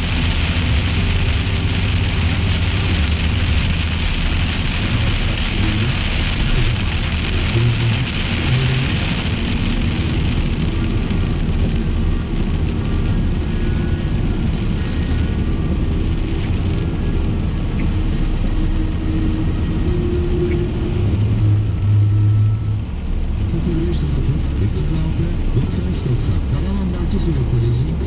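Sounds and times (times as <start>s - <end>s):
engine and tyre rumble: 0.0s - 28.0s
rain hiss on car: 0.0s - 28.0s.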